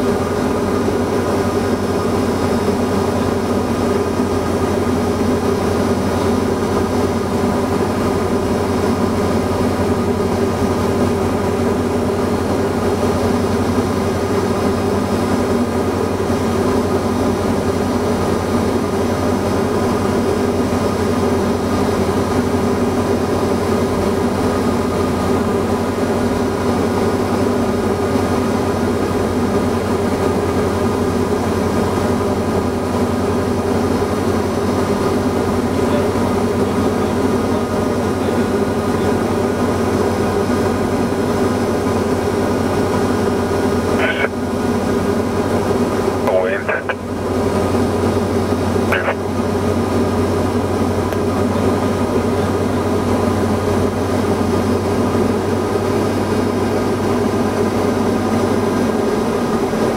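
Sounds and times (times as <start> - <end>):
aircraft engine and propeller droning: 0.0 - 59.9.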